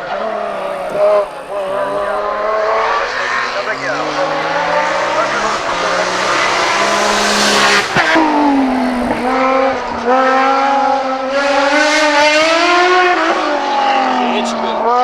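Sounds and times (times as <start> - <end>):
racing engine accelerating: 0.0 - 15.0.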